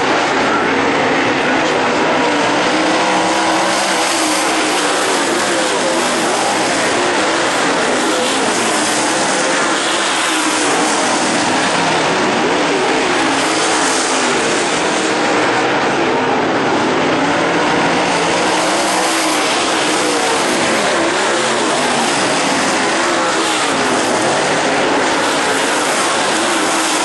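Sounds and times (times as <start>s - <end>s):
race car engines roaring: 0.0s - 27.0s.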